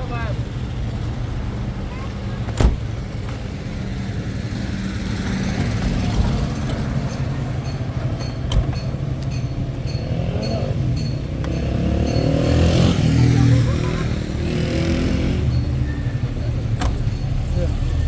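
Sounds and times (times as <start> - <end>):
vehicle rumbling: 0.0 - 18.0.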